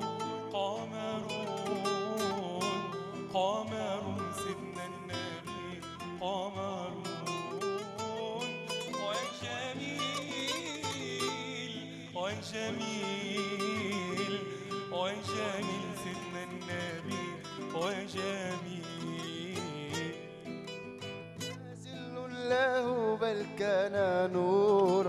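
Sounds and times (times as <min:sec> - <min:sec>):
classical guitar playing: 0:00.0 - 0:25.0
man singing melismatic lines: 0:00.0 - 0:25.0.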